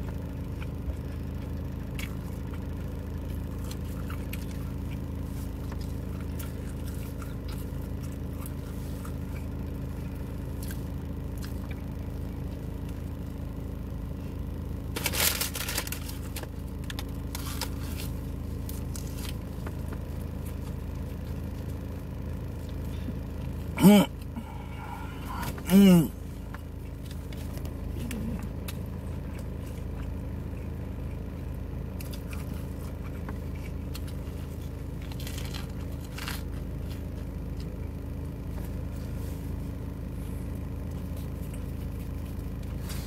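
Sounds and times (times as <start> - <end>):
food crunch: 0.0 - 13.1, 14.8 - 38.9
chewing with mouth noises: 0.0 - 13.2, 15.7 - 43.0
low hum inside a car: 0.0 - 43.0.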